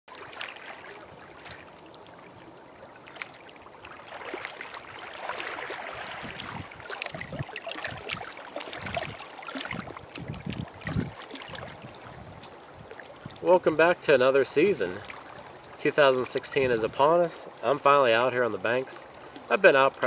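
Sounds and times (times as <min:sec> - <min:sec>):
small waves lapping on shore: 0:00.1 - 0:20.0.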